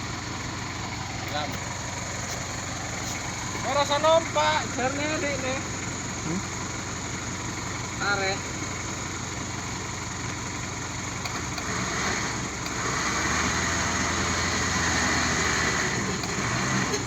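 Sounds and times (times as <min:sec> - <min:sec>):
truck engine under load: 0:00.0 - 0:17.0.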